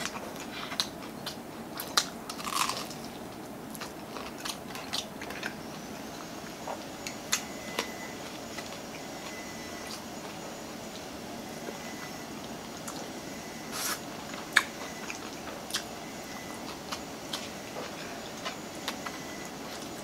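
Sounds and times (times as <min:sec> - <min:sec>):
chewing crispy fried chicken: 0:00.0 - 0:10.4, 0:13.8 - 0:20.0.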